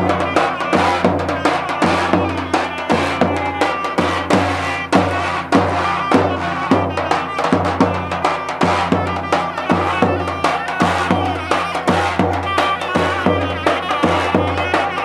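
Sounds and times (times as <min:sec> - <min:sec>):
wind instrument melody: 0:00.0 - 0:15.0.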